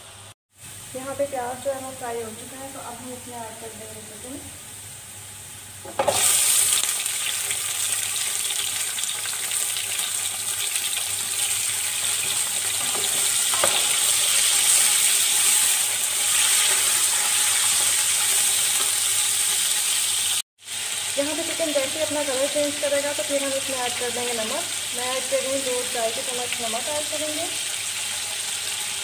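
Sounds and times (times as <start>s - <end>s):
loud sizzle in oil: 0.0s - 29.0s.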